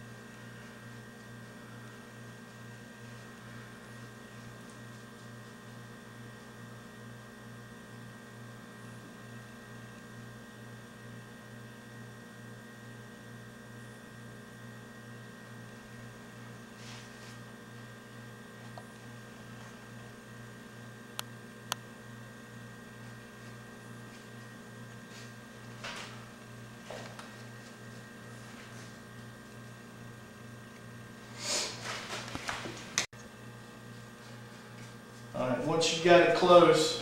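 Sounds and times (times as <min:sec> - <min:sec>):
electrical mains hum: 0:00.0 - 0:37.0.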